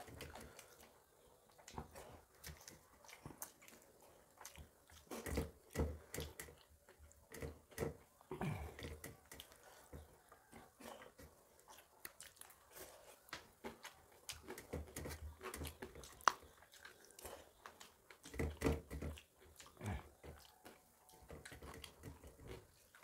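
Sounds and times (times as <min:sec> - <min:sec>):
people chewing: 0:00.0 - 0:23.0.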